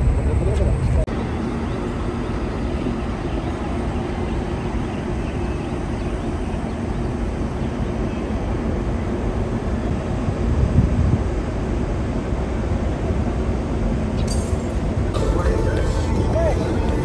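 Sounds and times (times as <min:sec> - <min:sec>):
machinery droning: 0:00.0 - 0:17.0.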